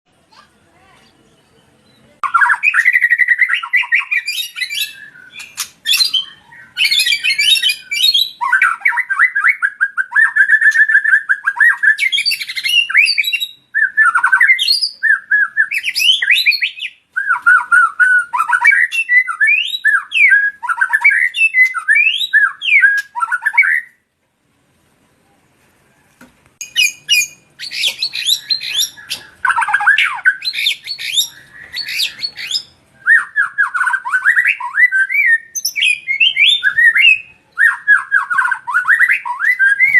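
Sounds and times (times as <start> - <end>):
bird singing whistled song: 1.3 - 24.0, 26.6 - 39.9.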